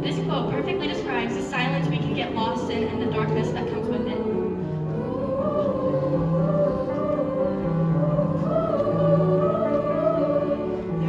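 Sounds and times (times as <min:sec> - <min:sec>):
choir singing long notes: 0:00.0 - 0:11.0.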